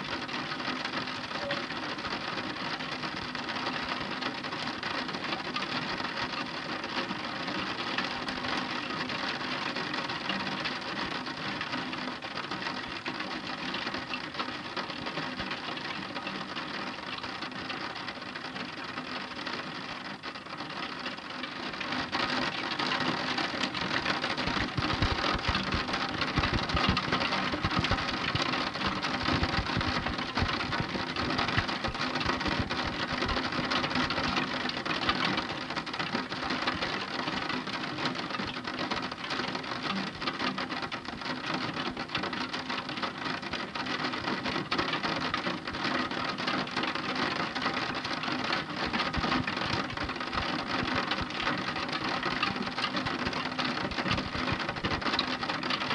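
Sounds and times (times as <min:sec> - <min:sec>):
heavy rain falling: 0:00.2 - 0:55.9.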